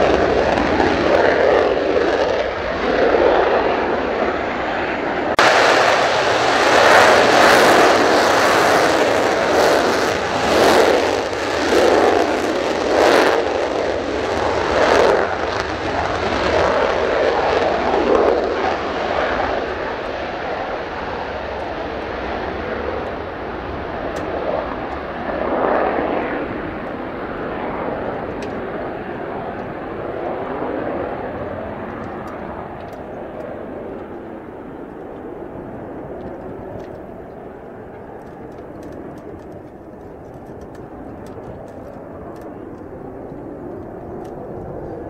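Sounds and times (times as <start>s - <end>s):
jet engine roar: 0.0s - 45.0s.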